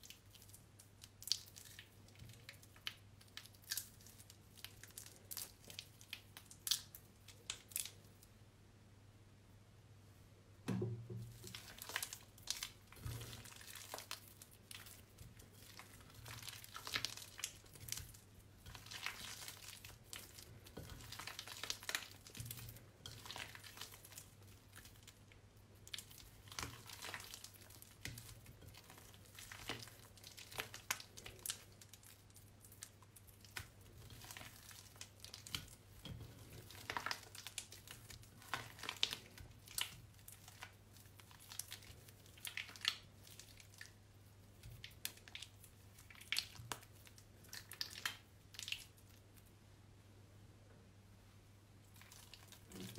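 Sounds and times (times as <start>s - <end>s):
wet soap squishing and crackling: 0.0s - 8.5s, 10.6s - 49.8s, 51.6s - 52.9s.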